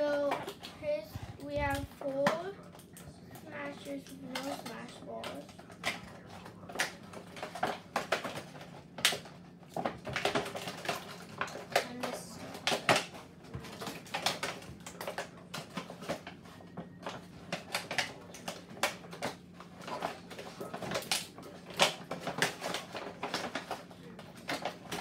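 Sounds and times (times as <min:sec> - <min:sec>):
plastic packaging clicks and crackles: 0:01.4 - 0:25.0.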